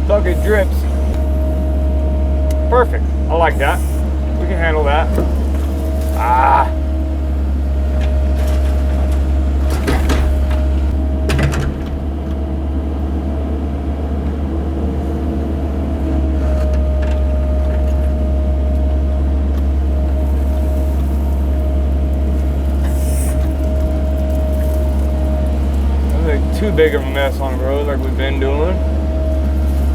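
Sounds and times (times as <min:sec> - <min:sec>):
excavator diesel engine: 0:00.0 - 0:29.9
hydraulic whine: 0:00.0 - 0:29.9.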